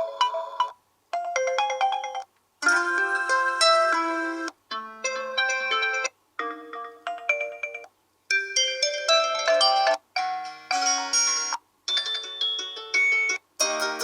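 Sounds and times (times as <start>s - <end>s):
smartphone ringtone melodies: 0.0s - 14.0s.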